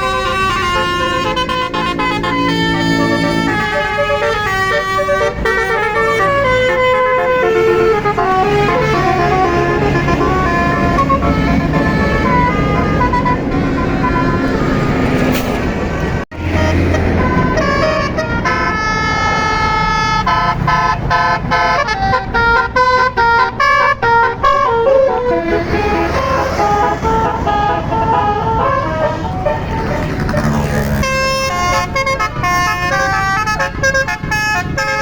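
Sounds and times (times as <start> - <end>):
musical bus air horn: 0.0 - 35.0.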